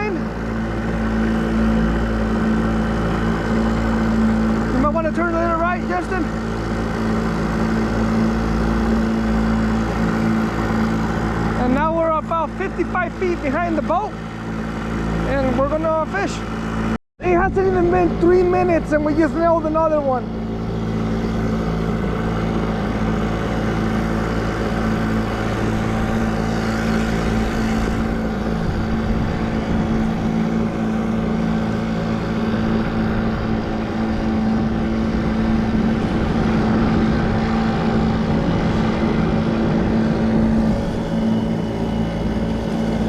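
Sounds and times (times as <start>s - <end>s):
outboard motor running: 0.0s - 43.0s.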